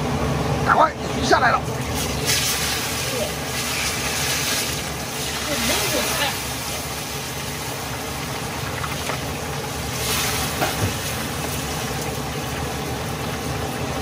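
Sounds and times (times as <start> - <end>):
gas burner roar: 0.0 - 14.0
fish sizzling in hot oil: 1.8 - 14.0.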